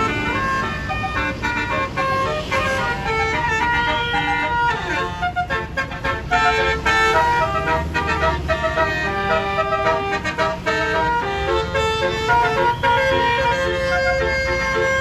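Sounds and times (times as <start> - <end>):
bus engine rumble: 0.0 - 15.0
multi-tone air horn melody: 0.0 - 15.0.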